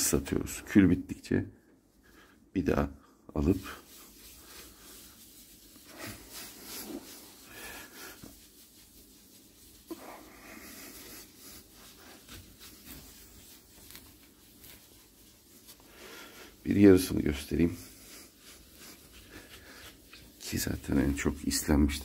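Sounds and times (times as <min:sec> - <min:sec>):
sponge swishing on glass: 0:01.9 - 0:22.0.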